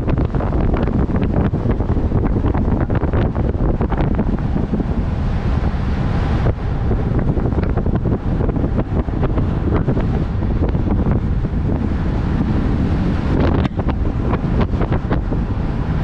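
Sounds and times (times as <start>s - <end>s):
vehicle road noise: 0.0s - 16.0s
wind buffeting microphone: 0.0s - 16.0s.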